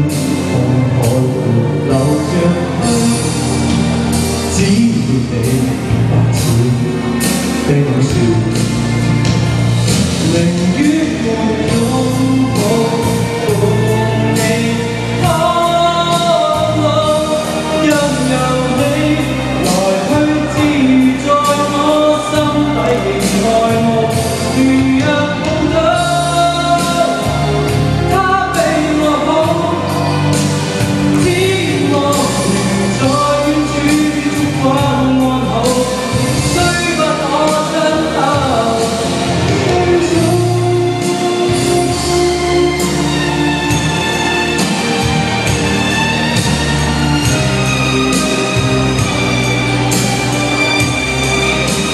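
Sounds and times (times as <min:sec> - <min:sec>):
man singing into microphone: 0:00.0 - 0:45.4
pop backing track with beat: 0:00.0 - 0:51.9.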